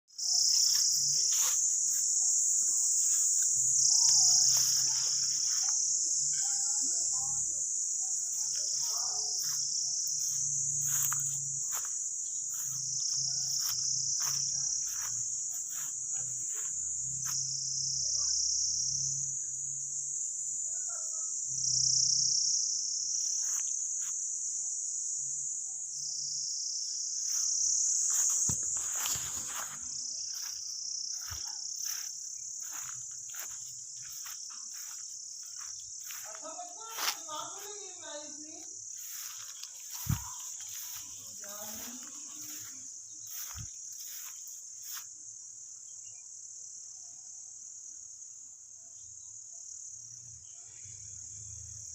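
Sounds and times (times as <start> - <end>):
insects shrilling: 0.1 - 45.2.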